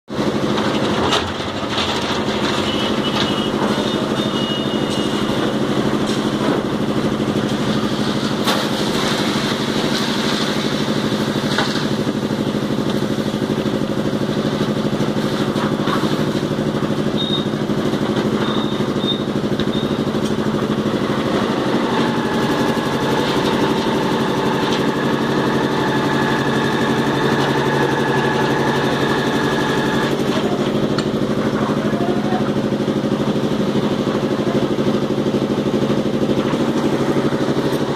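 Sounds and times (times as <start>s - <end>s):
concrete mixer engine running: 0.1s - 37.9s.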